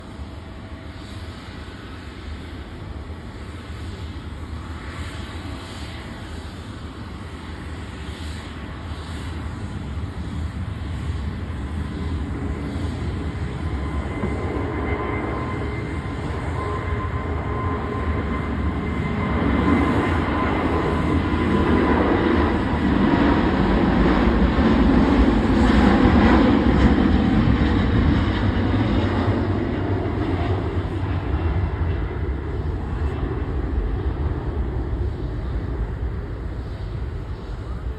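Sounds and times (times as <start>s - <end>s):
faint steady engine whine: 0.0s - 37.9s
jet engines roaring at takeoff: 0.0s - 37.9s.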